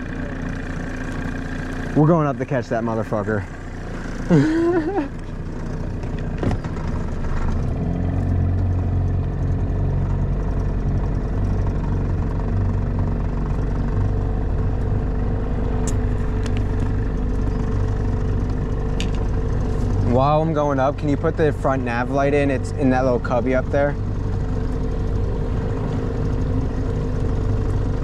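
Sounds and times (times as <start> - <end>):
outboard motor running: 0.0 - 28.0.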